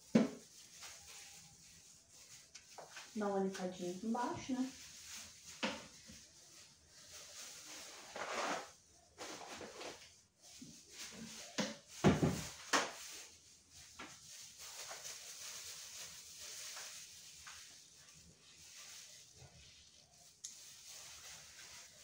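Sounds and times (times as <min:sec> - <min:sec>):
paper towel rustling: 0:00.0 - 0:22.0.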